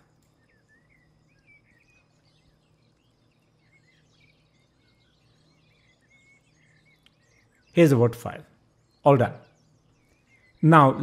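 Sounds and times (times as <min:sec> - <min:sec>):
faint bird chirps: 0:00.0 - 0:11.0
low steady hum: 0:00.0 - 0:11.0.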